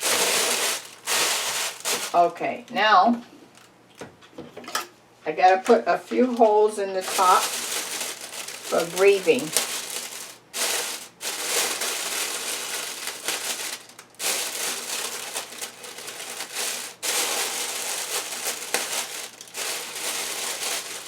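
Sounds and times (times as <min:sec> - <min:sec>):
plastic bag crinkling: 0:00.0 - 0:02.7, 0:06.2 - 0:21.0.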